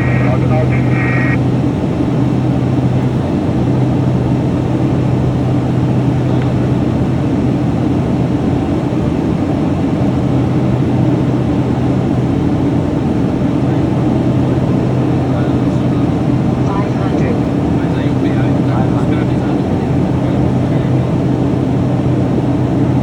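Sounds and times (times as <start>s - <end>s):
turboprop engines droning in cockpit: 0.0s - 23.0s.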